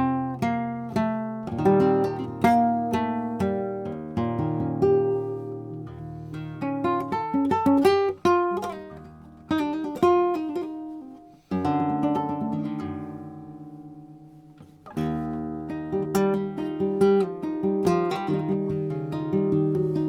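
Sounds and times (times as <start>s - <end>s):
plucked guitar notes: 0.0s - 20.0s.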